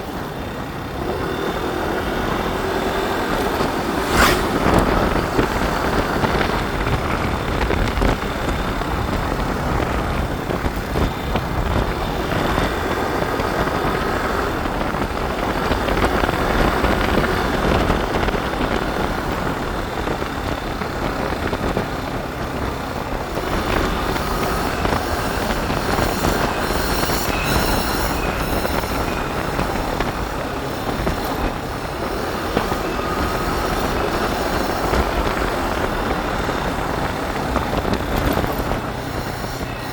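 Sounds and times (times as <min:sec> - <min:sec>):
motorbike engine running: 0:00.0 - 0:39.9
wind noise: 0:00.0 - 0:39.9.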